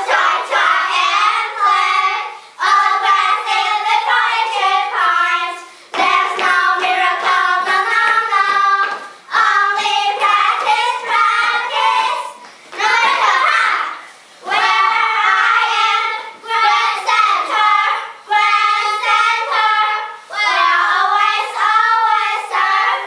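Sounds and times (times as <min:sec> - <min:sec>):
girls singing a cheer song: 0:00.0 - 0:23.0.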